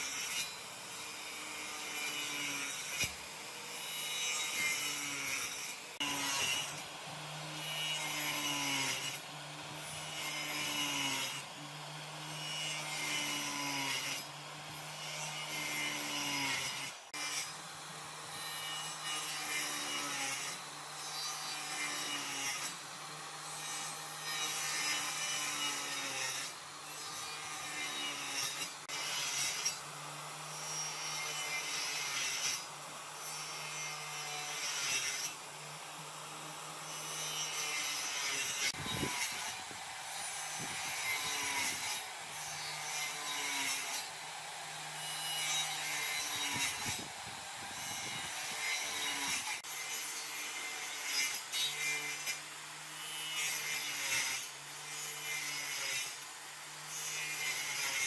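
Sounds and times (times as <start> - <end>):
rasping hiss of wood cutting: 0.0 - 58.0.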